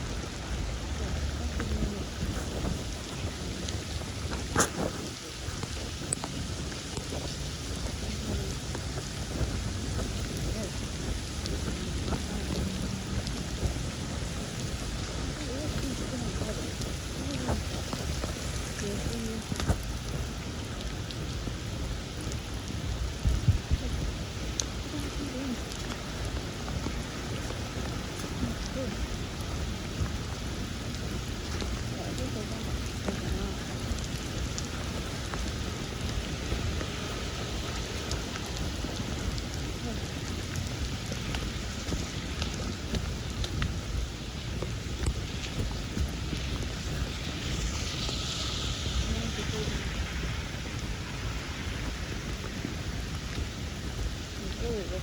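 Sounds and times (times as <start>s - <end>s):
heavy low rumble: 0.0s - 55.0s
rain falling: 0.0s - 55.0s.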